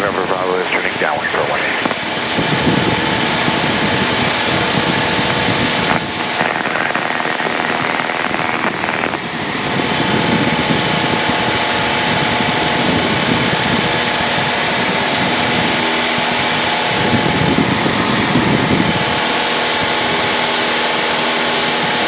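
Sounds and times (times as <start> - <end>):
airplane engine and propeller droning: 0.0 - 22.0
electrical hum: 0.0 - 22.0.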